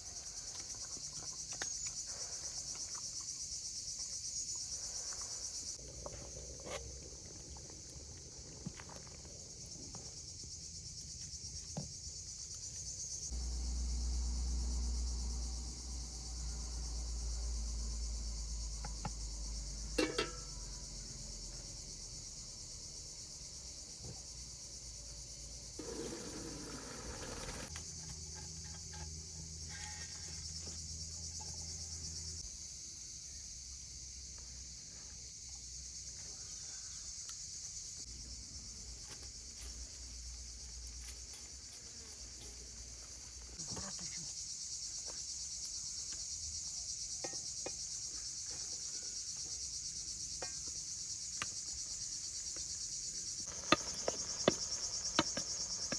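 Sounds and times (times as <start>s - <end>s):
insects chirring: 0.0s - 55.9s.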